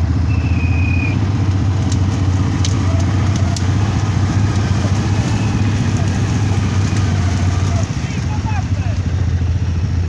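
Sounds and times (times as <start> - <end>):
quad bike engine running: 0.0 - 10.0.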